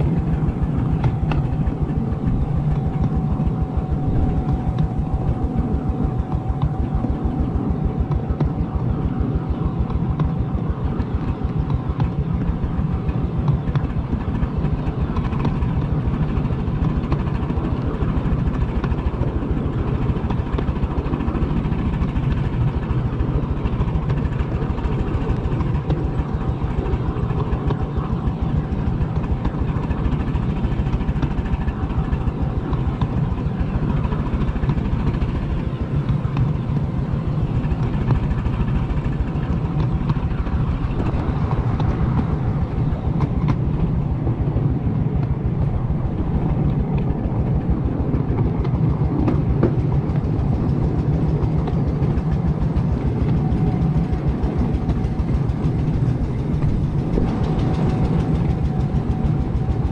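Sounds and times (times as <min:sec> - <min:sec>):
thin steady whine: 0:00.0 - 0:59.9
train wheels rumbling on rail: 0:00.0 - 0:59.9.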